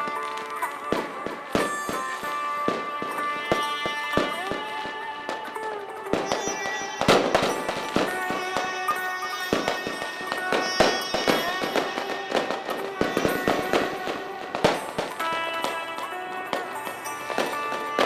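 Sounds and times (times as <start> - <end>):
firecrackers and fireworks banging: 0.0 - 18.0
music with sustained tones: 0.0 - 18.0.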